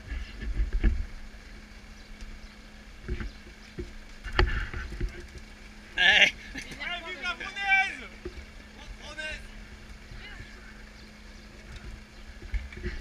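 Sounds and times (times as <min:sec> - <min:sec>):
bike tyres rumbling: 0:00.0 - 0:13.0.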